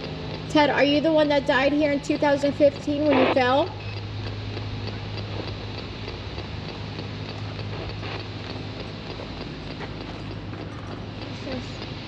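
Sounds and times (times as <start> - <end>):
faint ticking: 0.0 - 12.0
low electrical hum: 0.0 - 12.0.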